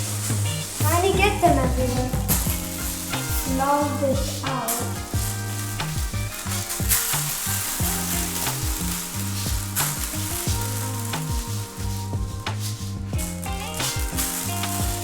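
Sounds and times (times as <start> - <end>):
background music: 0.0 - 15.0
sprinkles scattering on hard floor: 0.0 - 15.0.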